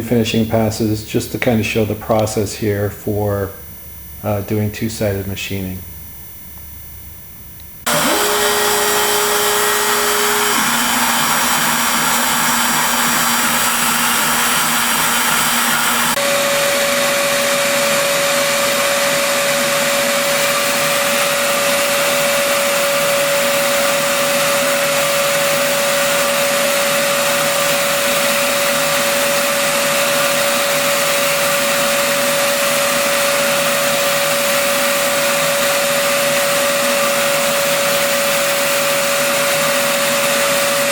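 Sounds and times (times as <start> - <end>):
router spindle motor whining: 7.8 - 40.9.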